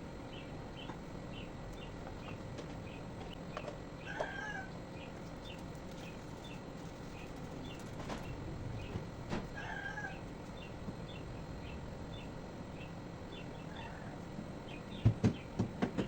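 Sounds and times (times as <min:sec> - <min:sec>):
birds chirping: 0:00.2 - 0:15.6.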